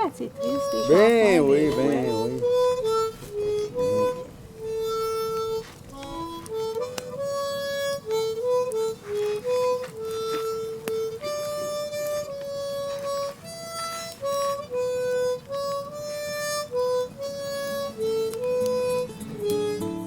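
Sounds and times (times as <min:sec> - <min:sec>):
harmonica melody: 0:00.0 - 0:20.0.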